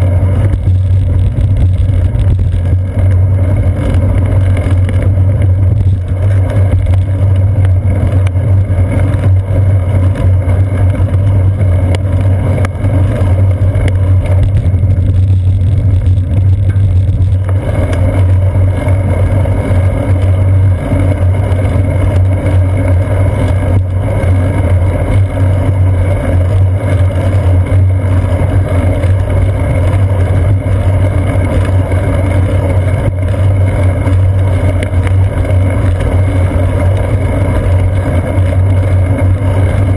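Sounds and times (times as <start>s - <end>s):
road vibration rumble: 0.0s - 39.9s
wind buffeting on moving bicycle: 0.0s - 39.9s.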